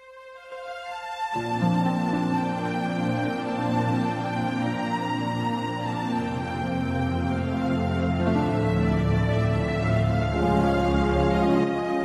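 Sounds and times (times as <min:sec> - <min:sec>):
music with slow sustained tones: 0:00.0 - 0:12.0.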